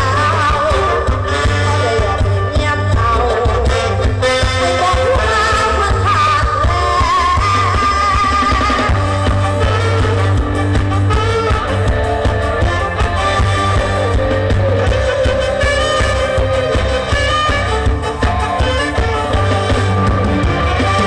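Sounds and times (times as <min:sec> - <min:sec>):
person singing: 0:00.0 - 0:10.0, 0:12.6 - 0:21.0
heavy bass line: 0:00.0 - 0:21.0
keyboard: 0:00.0 - 0:21.0
live band music over speakers: 0:00.0 - 0:21.0.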